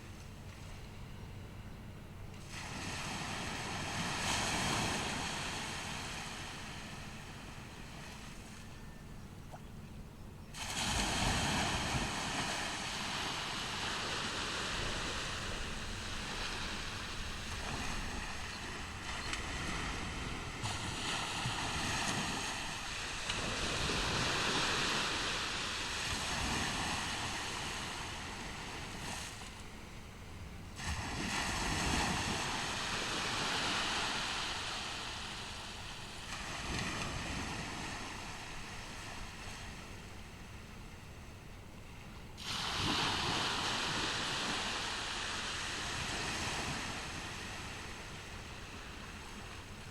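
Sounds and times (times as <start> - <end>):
wind rumble on microphone: 0.0 - 41.4
ocean surf breaking on beach: 2.3 - 8.7, 10.6 - 29.9, 30.8 - 40.6, 42.4 - 49.9.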